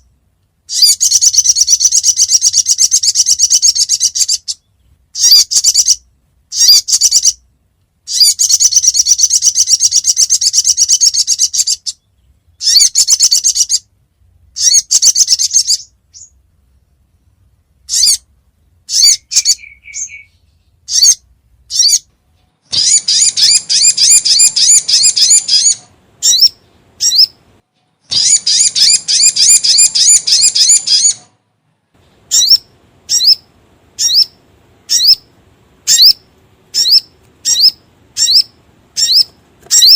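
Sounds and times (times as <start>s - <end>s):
bird sharp chirps: 0.7s - 7.4s, 8.1s - 13.9s, 14.6s - 16.4s, 17.9s - 22.1s, 22.7s - 27.4s, 28.0s - 31.3s, 32.3s - 39.9s
bird trilling song: 0.7s - 7.5s, 8.1s - 13.9s, 14.5s - 16.4s, 17.8s - 27.4s, 28.0s - 31.3s, 32.2s - 39.9s.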